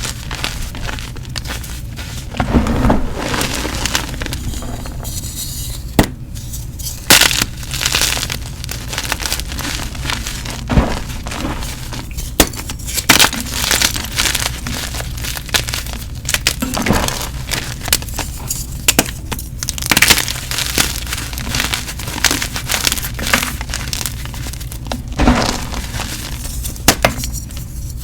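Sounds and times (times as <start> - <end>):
chalk crunching and crumbling: 0.0 - 28.0.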